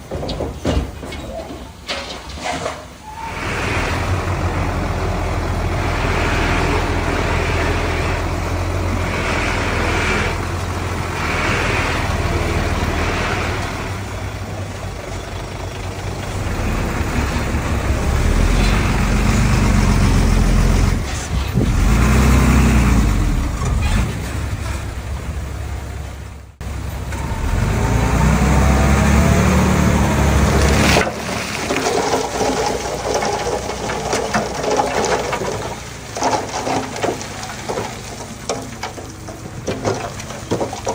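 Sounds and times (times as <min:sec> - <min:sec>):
heavy diesel engines working: 0:00.0 - 0:40.9.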